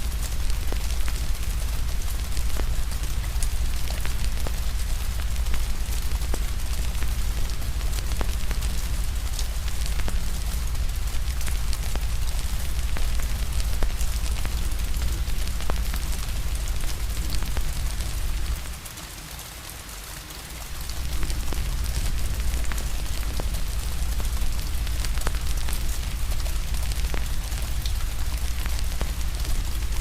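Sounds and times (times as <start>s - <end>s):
wood fire crackling: 0.0s - 19.2s, 20.6s - 30.0s
rain hiss: 0.0s - 30.0s.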